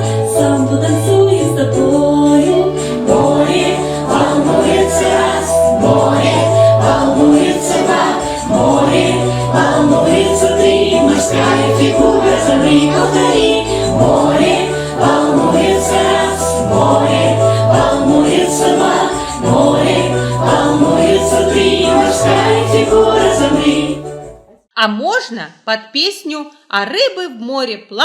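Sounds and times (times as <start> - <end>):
children's dance song: 0.0 - 24.4.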